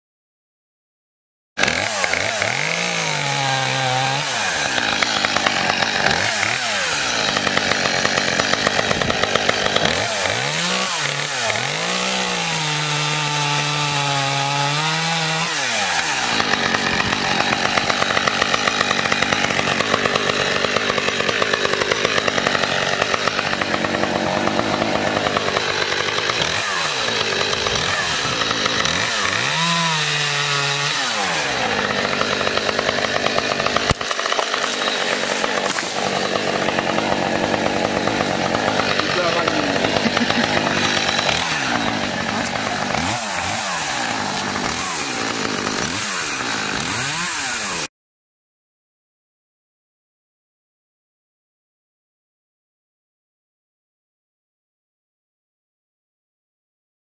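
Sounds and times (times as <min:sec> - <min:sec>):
chainsaw cutting wood: 0:01.6 - 0:47.9
chainsaw revving: 0:01.6 - 0:47.9.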